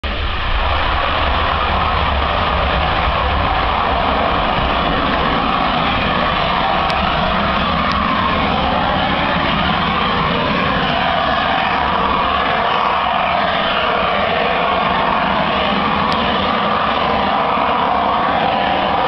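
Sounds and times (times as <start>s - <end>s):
rocket motor roaring: 0.0s - 19.0s.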